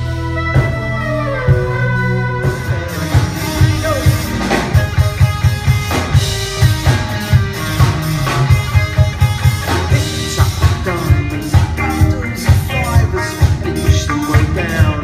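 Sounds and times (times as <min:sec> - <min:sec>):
drum kit beating: 0:00.0 - 0:15.0
live rock band instrumental: 0:00.0 - 0:15.0.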